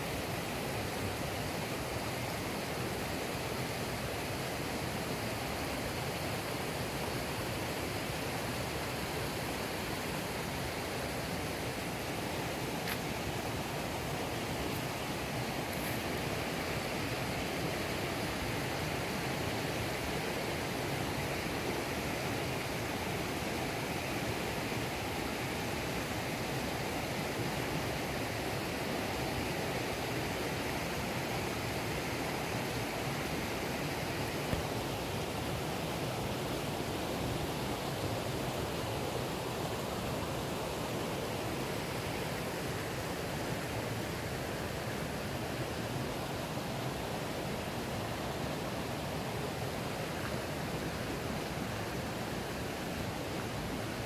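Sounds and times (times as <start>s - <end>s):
stream rushing water: 0.0s - 54.0s.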